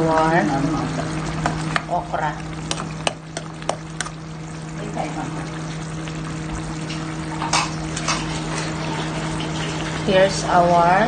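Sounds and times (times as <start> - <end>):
curry simmering and sizzling: 0.0 - 11.0
steady low hum: 0.0 - 11.0.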